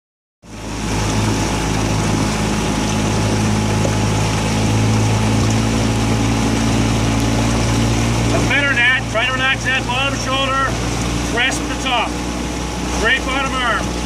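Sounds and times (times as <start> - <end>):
motorboat engine running: 0.4 - 14.0.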